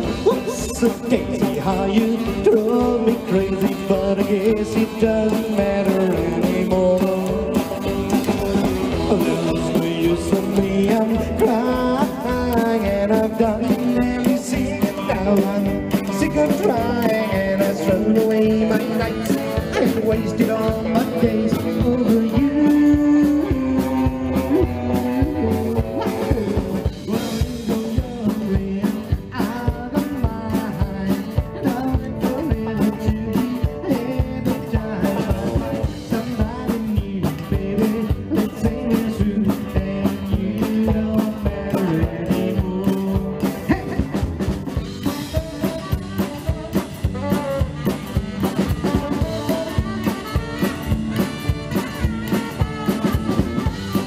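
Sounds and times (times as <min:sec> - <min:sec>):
drum kit beat: 0:00.0 - 0:54.0
electric guitar: 0:00.0 - 0:54.0
upright bass: 0:00.0 - 0:54.0.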